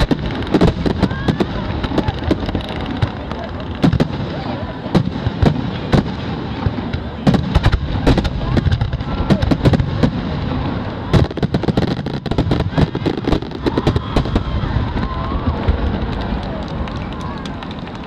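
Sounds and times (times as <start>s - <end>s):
continuous rumble: 0.0s - 18.0s
fireworks bangs and pops: 0.0s - 18.0s.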